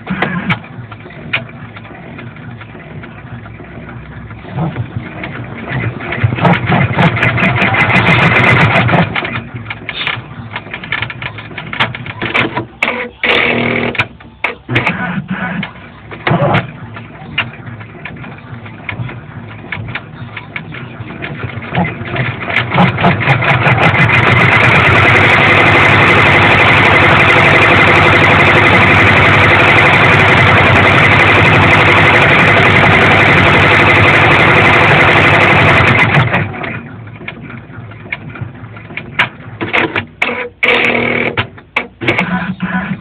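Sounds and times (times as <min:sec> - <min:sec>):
scattered clicks: 0:00.0 - 0:15.0, 0:15.6 - 0:42.3
embroidery machine stitching: 0:00.0 - 0:43.0.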